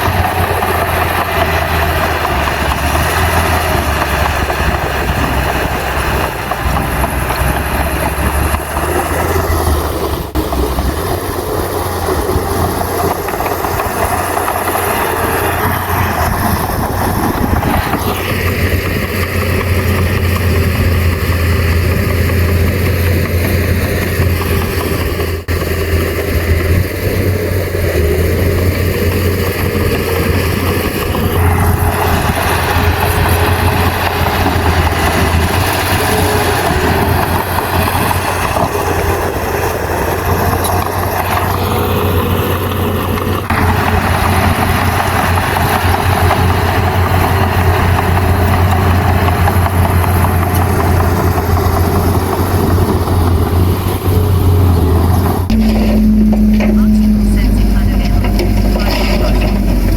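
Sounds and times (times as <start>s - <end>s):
dense noisy layer: 0.0s - 59.9s
heavy diesel engine running: 0.0s - 59.9s.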